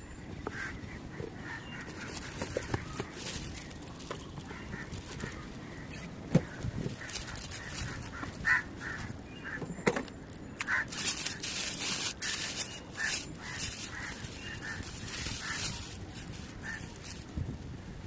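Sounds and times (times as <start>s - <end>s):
rustling noise: 0.3s - 9.2s, 10.2s - 18.0s.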